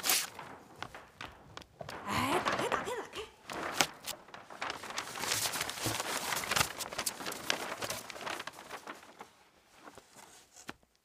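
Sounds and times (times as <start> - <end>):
paper wrapping crackling: 0.0 - 11.0.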